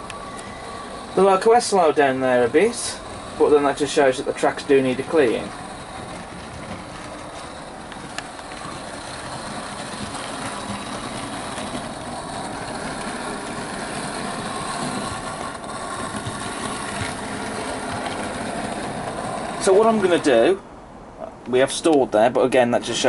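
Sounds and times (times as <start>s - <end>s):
model train motor hum: 0.0s - 20.6s
model train wheel noise: 0.0s - 20.6s.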